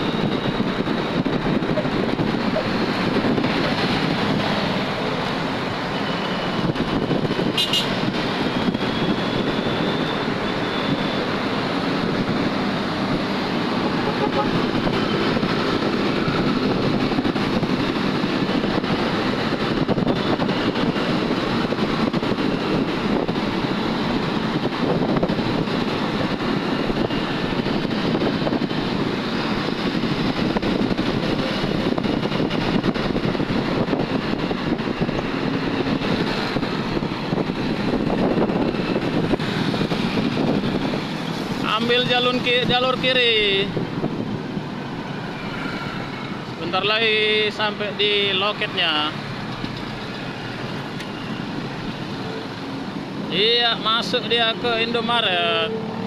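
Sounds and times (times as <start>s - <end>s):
wind on microphone: 0.0s - 41.8s, 43.2s - 46.6s
motorcycles passing: 0.0s - 56.0s
road traffic noise: 0.0s - 56.0s.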